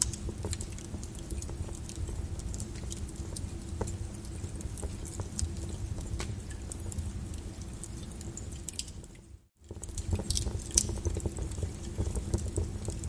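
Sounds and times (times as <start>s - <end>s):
rain patter: 0.0s - 13.0s
wood fire crackling and popping: 0.0s - 13.0s.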